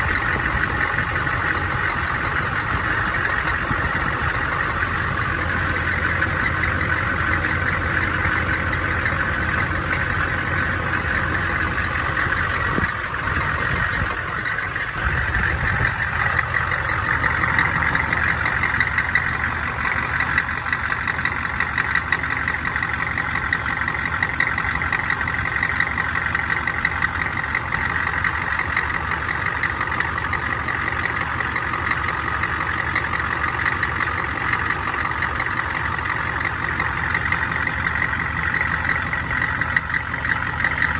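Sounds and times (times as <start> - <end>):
engine idling: 0.0 - 40.9
rapid high-pitched engine knock: 0.0 - 40.9.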